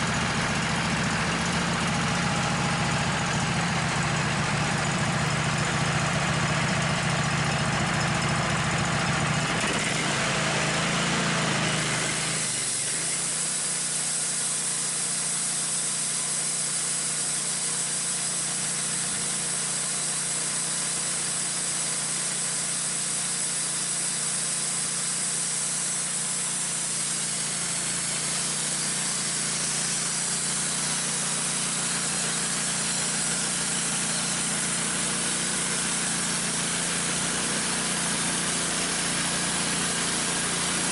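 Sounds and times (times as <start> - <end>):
gas engine running: 0.0 - 40.9.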